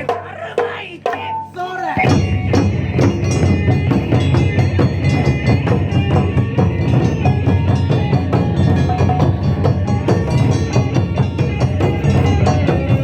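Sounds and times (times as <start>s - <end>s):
taiko drum ensemble: 0.0s - 13.0s
ringing metallic tones: 1.4s - 13.0s.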